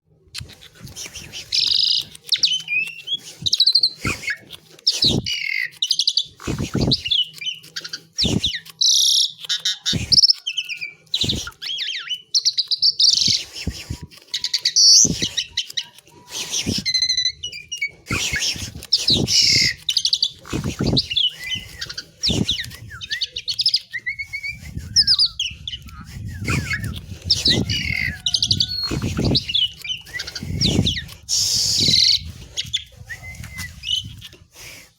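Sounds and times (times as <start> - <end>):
sharp clicks: 0.2 - 34.9
myna singing whistles and chatter: 0.7 - 34.9.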